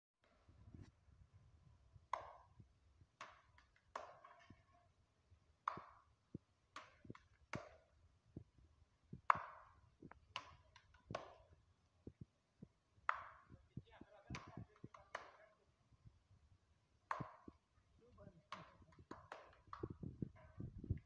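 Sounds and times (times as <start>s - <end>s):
palms slapping dough: 2.0s - 15.8s, 17.0s - 21.0s.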